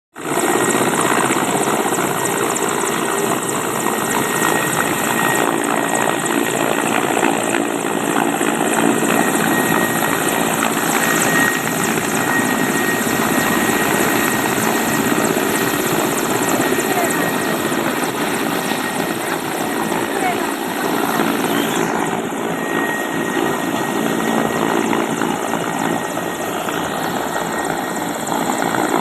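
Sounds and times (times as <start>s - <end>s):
helicopter rotor and engine: 0.2s - 29.0s.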